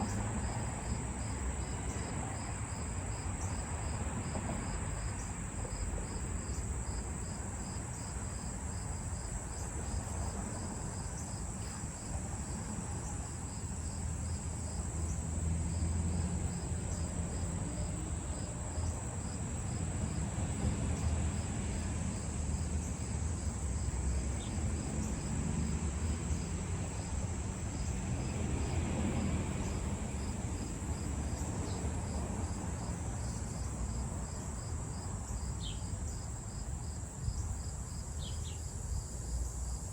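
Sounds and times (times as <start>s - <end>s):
crickets trilling: 0.0s - 39.9s
pulsed cricket chirping: 0.0s - 39.9s.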